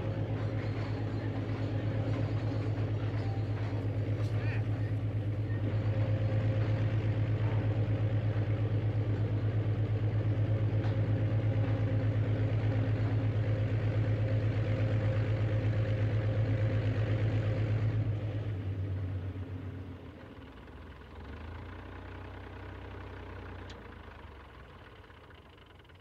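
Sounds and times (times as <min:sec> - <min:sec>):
diesel engine sound from small speaker: 0:00.0 - 0:26.0.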